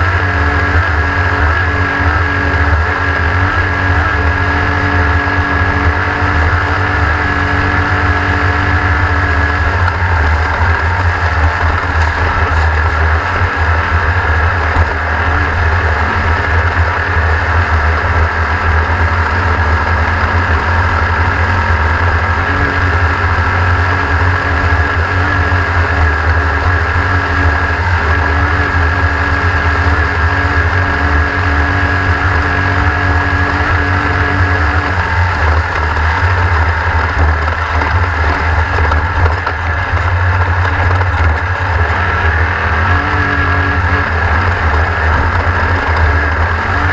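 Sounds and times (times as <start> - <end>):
racing engine at high throttle: 0.0 - 46.9.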